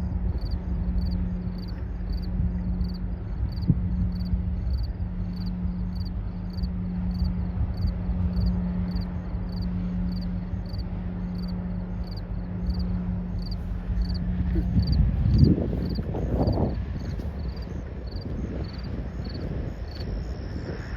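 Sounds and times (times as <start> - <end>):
ship engines droning: 0.0 - 20.9.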